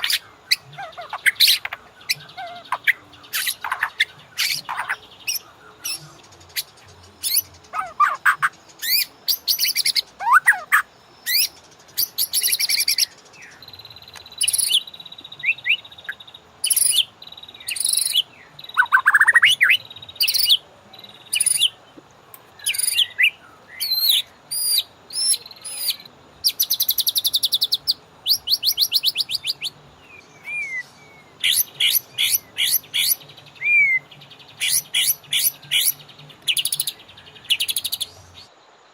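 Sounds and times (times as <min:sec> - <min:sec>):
bird singing whistled phrases: 0:00.0 - 0:13.6, 0:14.4 - 0:20.6, 0:21.3 - 0:21.8, 0:22.6 - 0:38.5.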